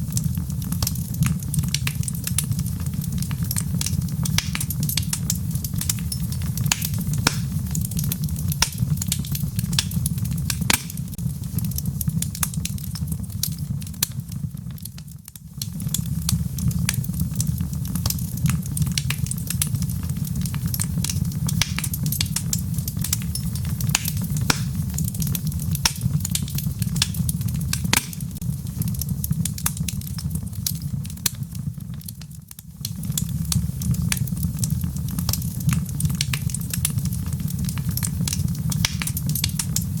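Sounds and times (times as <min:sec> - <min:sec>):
fire crackling and popping: 0:00.0 - 0:40.0
low fire rumble: 0:00.0 - 0:40.0.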